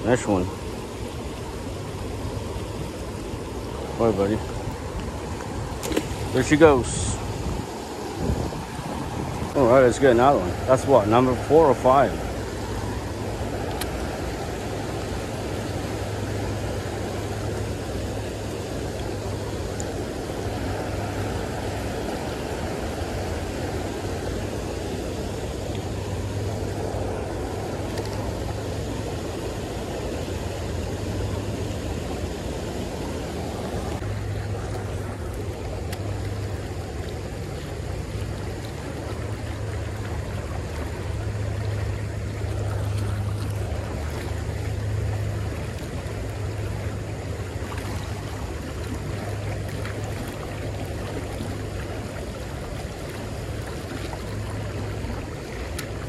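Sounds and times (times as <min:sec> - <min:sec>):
creek water rushing over weir: 0:00.0 - 0:56.0.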